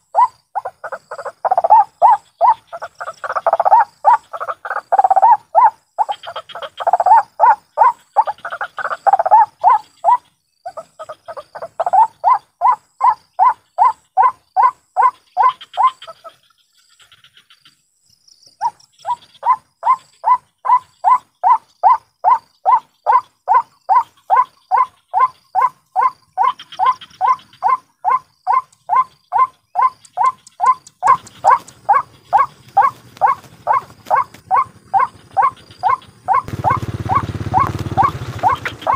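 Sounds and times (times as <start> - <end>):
bird harsh croaking calls: 0.0 - 38.9.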